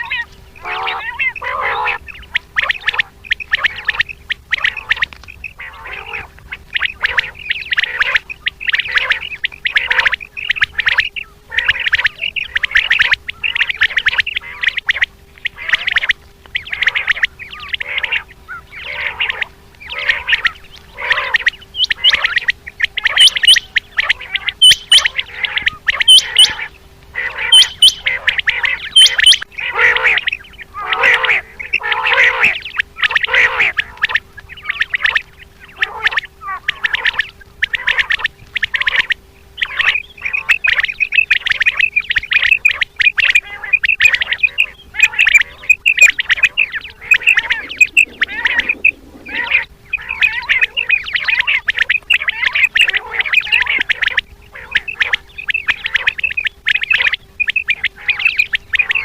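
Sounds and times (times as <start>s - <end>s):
faint steady hum: 0.0s - 59.0s
quail calling: 0.0s - 59.0s.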